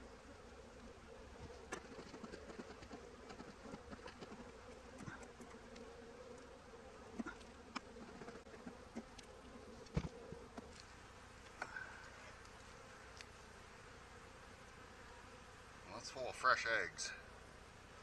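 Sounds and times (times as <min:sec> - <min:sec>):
bees humming: 0:00.0 - 0:18.0.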